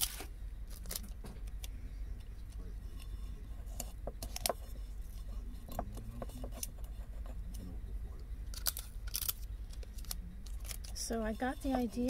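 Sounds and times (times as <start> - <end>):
light clicks and crinkles: 0.0 - 12.0
steady low hum: 0.0 - 12.0.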